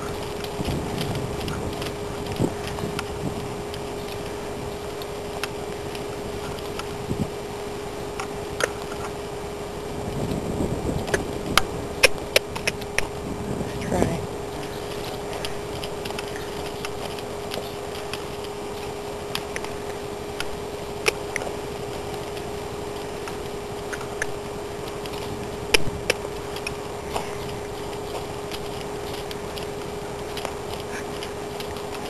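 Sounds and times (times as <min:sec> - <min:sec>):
horse hooves cantering on dirt: 0:00.0 - 0:09.2, 0:10.0 - 0:32.0
steady hum: 0:00.0 - 0:32.0.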